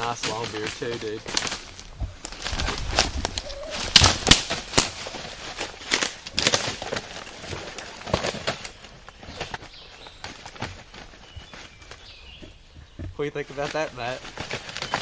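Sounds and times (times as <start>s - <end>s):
feathers and dry leaves rustling: 0.0s - 15.0s.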